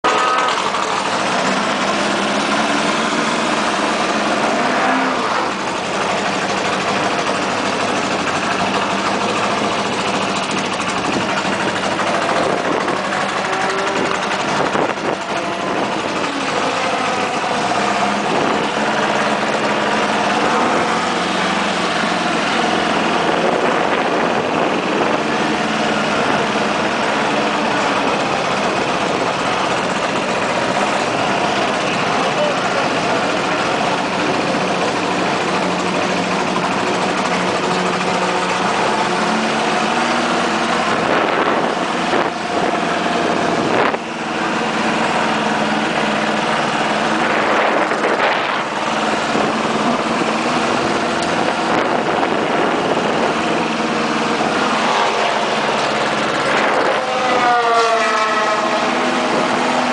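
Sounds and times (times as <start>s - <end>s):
racing car engine at low revs: 0.0s - 59.9s.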